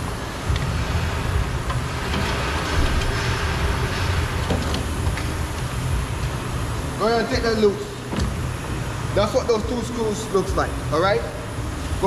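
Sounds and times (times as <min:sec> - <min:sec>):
low rumble of shop machinery: 0:00.0 - 0:12.0.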